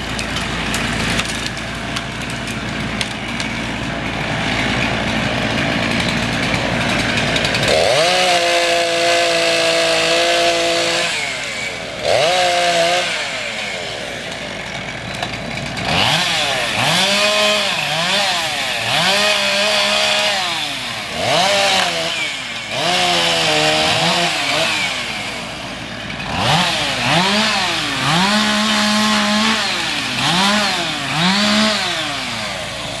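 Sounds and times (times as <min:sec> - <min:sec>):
engine revving: 0:00.6 - 0:14.4, 0:15.1 - 0:25.4, 0:26.2 - 0:33.0.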